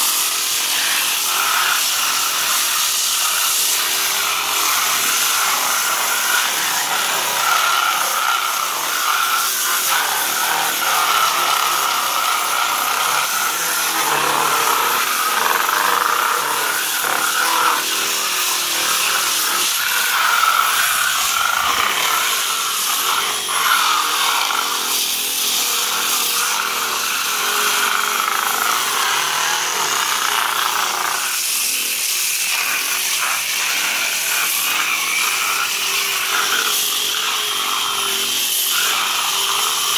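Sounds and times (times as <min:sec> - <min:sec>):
electric disc sander grinding plaster: 0:00.0 - 0:39.9.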